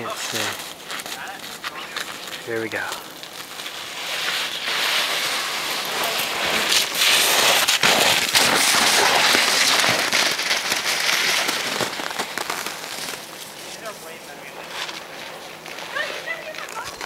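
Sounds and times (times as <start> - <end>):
sled scraping on snow: 0.0 - 17.0.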